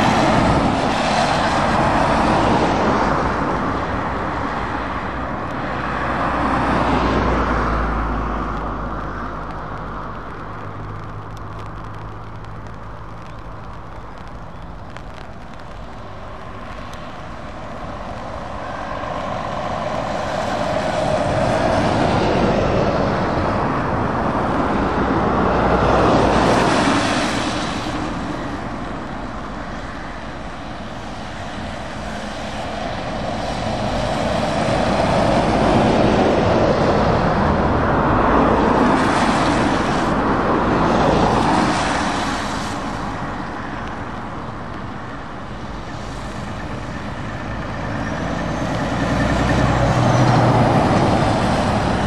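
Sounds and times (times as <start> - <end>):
vehicles passing on wet road: 0.0 - 52.0.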